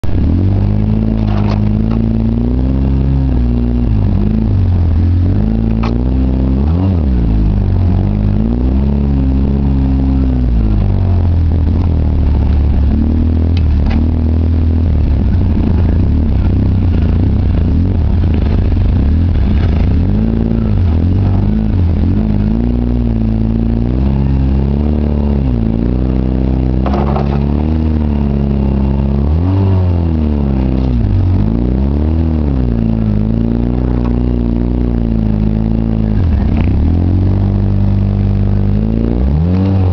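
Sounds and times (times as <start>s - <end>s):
utility vehicle engine revving: 0.0s - 39.9s.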